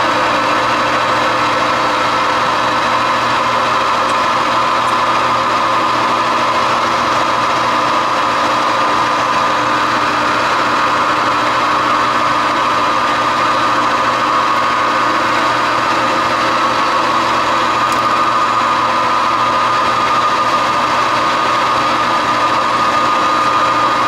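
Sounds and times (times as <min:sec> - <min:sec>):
metal lathe whining: 0:00.0 - 0:24.0.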